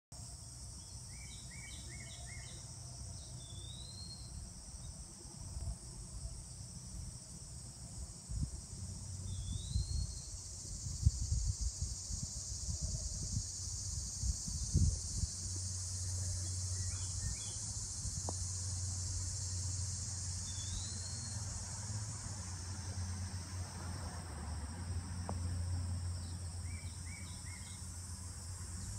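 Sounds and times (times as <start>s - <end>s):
high-pitched insect chorus: 0.2s - 28.9s.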